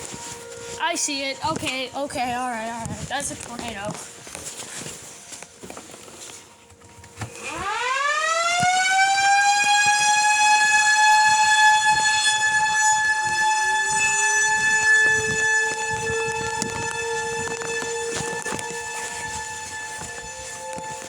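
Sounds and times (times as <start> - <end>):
lower siren tone climbing: 0.0 - 21.0
warning siren wailing: 0.0 - 21.0.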